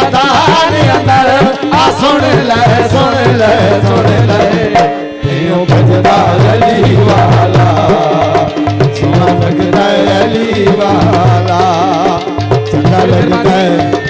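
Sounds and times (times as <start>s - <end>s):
hand drum beat: 0.0s - 14.0s
man singing into a microphone: 0.0s - 14.0s.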